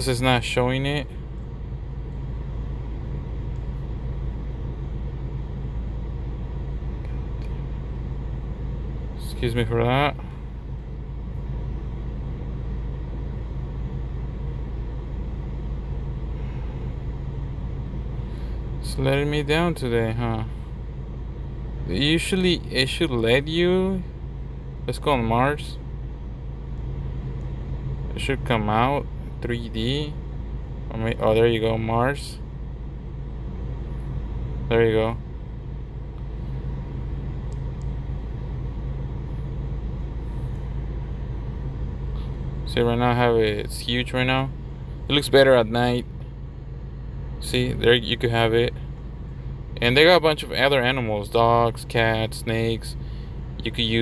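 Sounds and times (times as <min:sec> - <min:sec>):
car cabin engine hum: 0:00.0 - 0:54.0.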